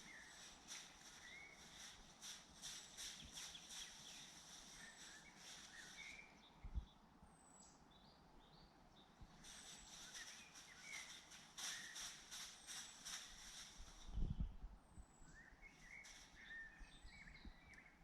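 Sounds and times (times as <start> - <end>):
birds trilling and chirping: 0.0 - 7.0, 9.0 - 14.0, 15.4 - 18.0.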